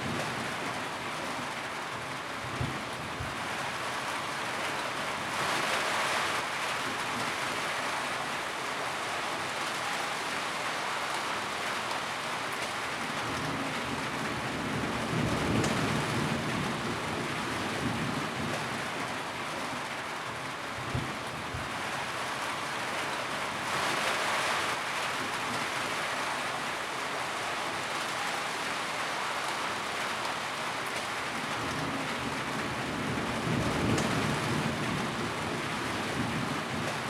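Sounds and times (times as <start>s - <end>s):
rain on a tin roof: 0.0s - 37.0s.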